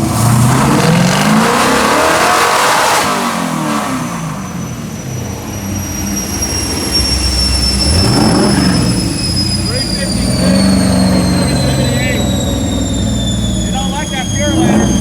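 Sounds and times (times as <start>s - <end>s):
car engine revving on dyno: 0.0s - 15.0s.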